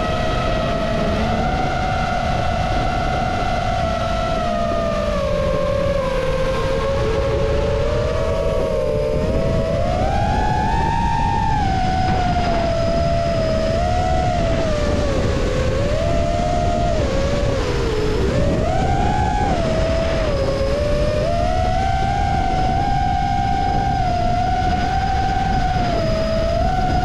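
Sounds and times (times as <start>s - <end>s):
quadcopter motors whining: 0.0s - 27.0s
steady rushing noise: 0.0s - 27.0s.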